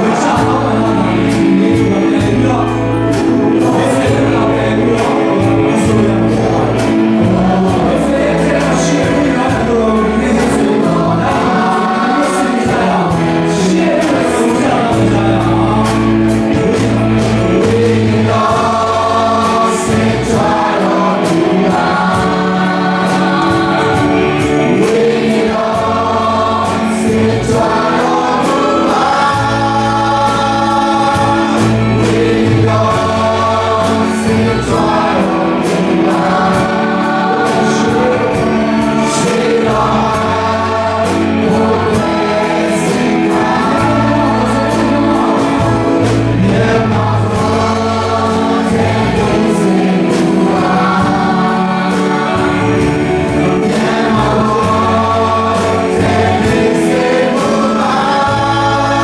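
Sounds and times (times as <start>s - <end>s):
bass notes: 0.0s - 59.0s
drums keeping time: 0.0s - 59.0s
group singing worship song: 0.0s - 59.0s.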